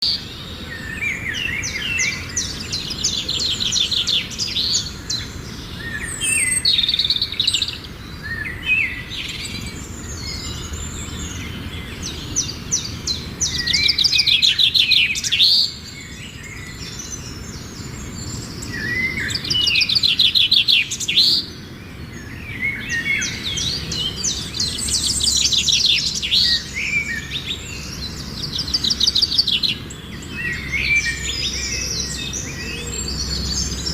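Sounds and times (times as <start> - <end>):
songbirds trilling and chirping: 0.0 - 33.9.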